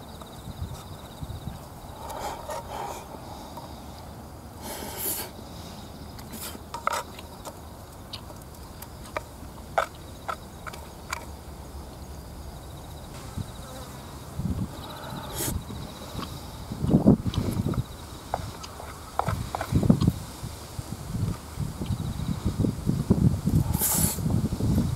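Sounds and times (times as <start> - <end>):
faint insect trill: 0.0 - 24.9.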